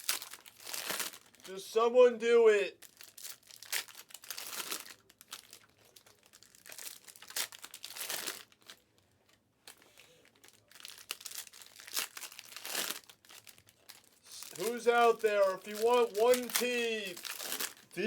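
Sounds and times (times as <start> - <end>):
plastic wrapping crinkling: 0.0 - 1.5, 2.8 - 18.0.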